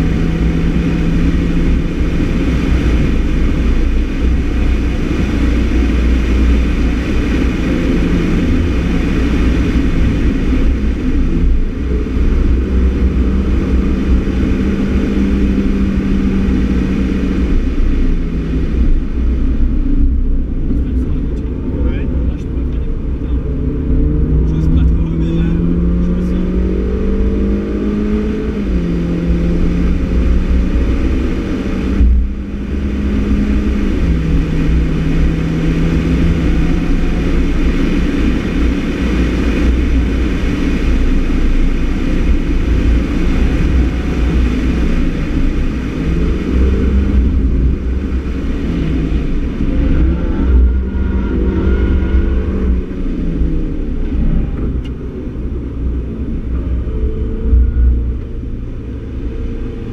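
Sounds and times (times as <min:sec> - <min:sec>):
car engine at speed: 0:00.0 - 0:59.9
wind and tyre noise: 0:00.0 - 0:59.9.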